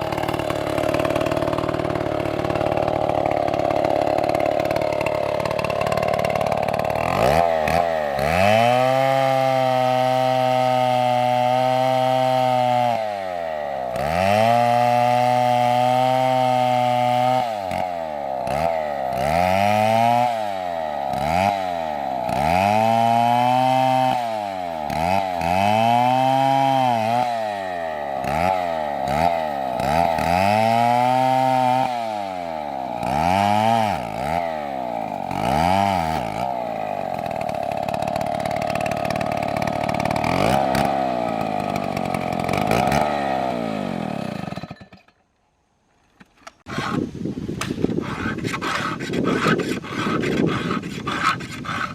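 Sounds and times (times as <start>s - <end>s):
chainsaw cutting wood: 0.0s - 45.4s, 46.1s - 51.9s.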